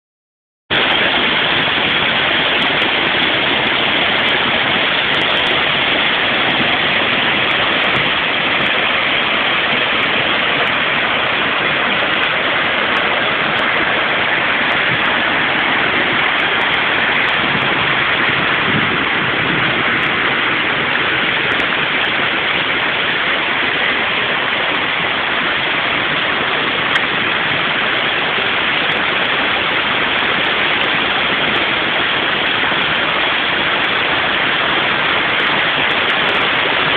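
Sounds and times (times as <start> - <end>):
stream water tumbling over rocks: 0.7 - 36.9.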